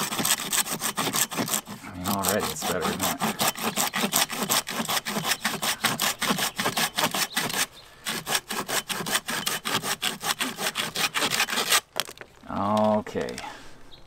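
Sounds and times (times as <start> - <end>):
saw rasping through log: 0.0 - 11.8.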